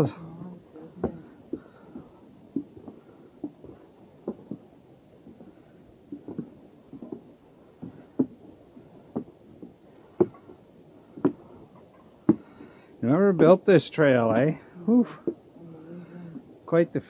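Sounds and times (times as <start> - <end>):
footsteps on wooden boardwalk: 0.0 - 13.6, 14.2 - 15.6.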